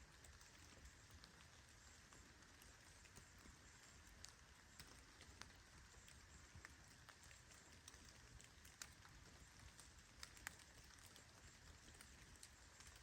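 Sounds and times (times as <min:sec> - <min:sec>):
light rain hiss: 0:00.0 - 0:13.0
raindrops ticking: 0:00.0 - 0:13.0.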